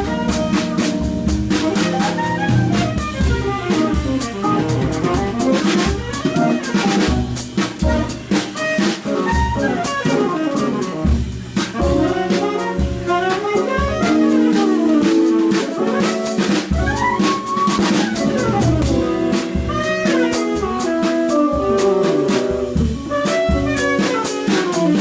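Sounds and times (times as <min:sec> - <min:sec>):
drum kit and cymbals: 0:00.0 - 0:25.0
guitar: 0:00.0 - 0:25.0
tenor saxophone: 0:00.0 - 0:25.0.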